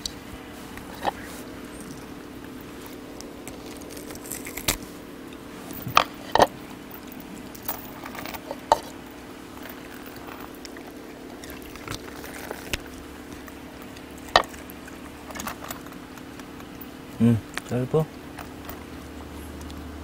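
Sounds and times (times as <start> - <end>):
dogs chewing: 0.0 - 20.0
steady hum: 0.0 - 20.0.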